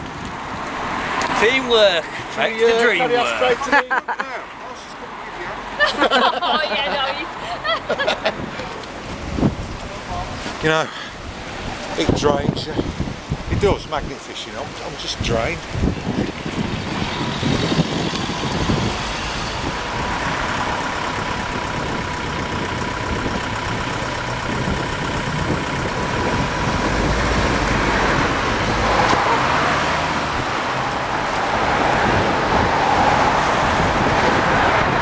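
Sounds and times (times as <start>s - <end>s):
cars driving past: 0.0s - 13.5s, 14.5s - 35.0s.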